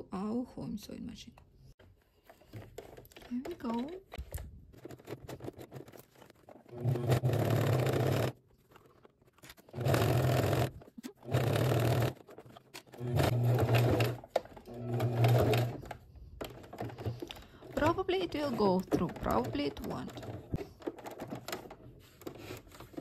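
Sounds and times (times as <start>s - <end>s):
sewing machine stitching leather: 2.4s - 23.0s.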